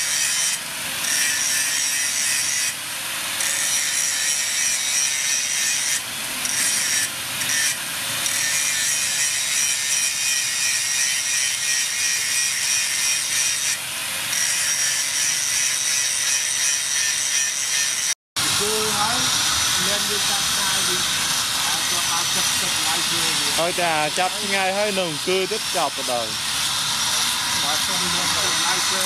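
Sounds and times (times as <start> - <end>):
angle grinder grinding steel: 0.0 - 29.0.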